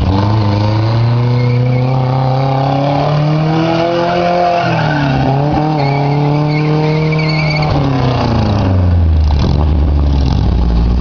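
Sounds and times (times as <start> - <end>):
racing engine accelerating: 0.0 - 11.0.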